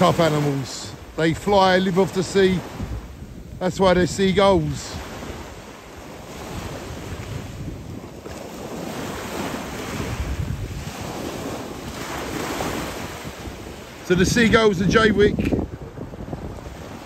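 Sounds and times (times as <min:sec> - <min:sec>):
sea waves washing in surf: 0:00.0 - 0:17.0
wind buffeting microphone: 0:00.0 - 0:17.0.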